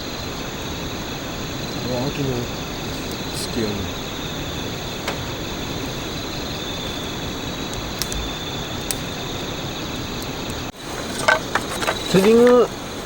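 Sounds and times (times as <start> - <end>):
background hiss: 0.0 - 13.0
crickets trilling: 0.0 - 13.0
campfire wood popping: 1.4 - 13.0.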